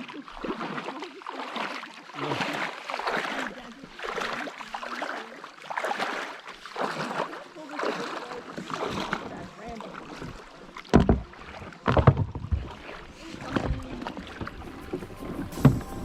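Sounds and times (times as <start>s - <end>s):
water splashing around a kayak: 0.0s - 16.0s.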